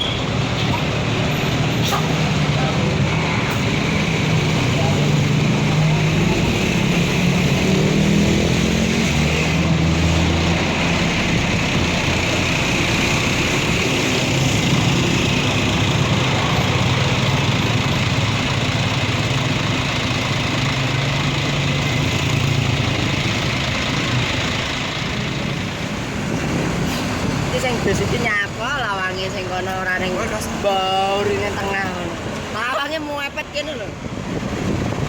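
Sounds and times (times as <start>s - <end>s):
bus diesel engine idling: 0.0s - 7.7s, 9.2s - 35.0s.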